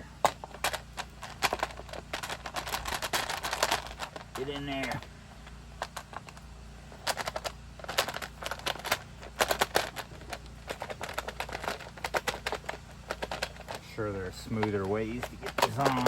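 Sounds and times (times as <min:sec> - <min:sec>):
plastic parts clicking and rattling: 0:00.0 - 0:16.0.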